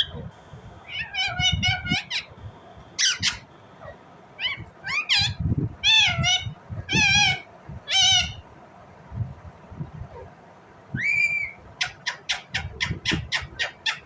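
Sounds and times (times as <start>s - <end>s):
parakeet chirping and calling: 0.0s - 8.4s, 11.0s - 14.0s.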